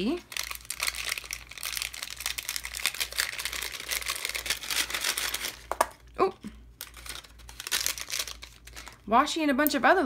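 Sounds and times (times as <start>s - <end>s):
paper bag crinkling: 0.0s - 5.9s, 6.8s - 9.0s.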